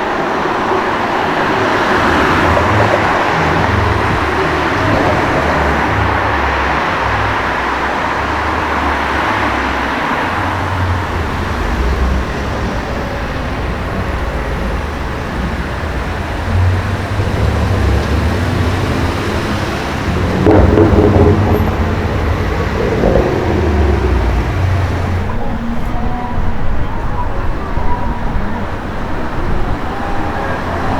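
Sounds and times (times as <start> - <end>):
car engine low rumble: 0.0 - 25.7.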